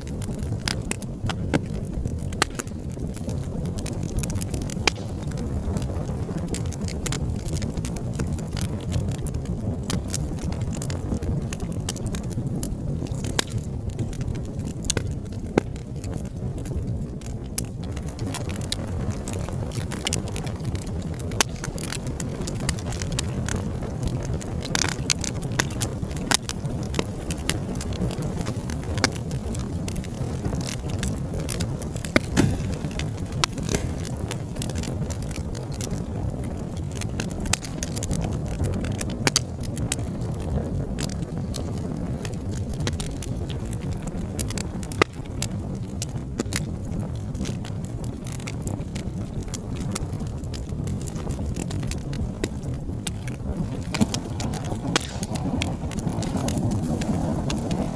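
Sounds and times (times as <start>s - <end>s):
wood fire crackling and popping: 0.0s - 57.9s.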